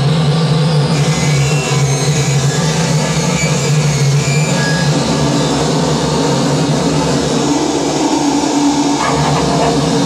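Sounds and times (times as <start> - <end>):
electronic noise drone: 0.0 - 10.0.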